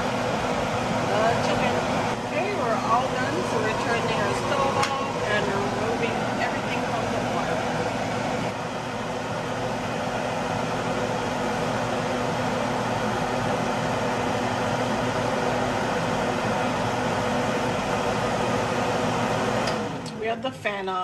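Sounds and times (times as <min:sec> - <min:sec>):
exhaust fan whooshing drone: 0:00.0 - 0:21.0.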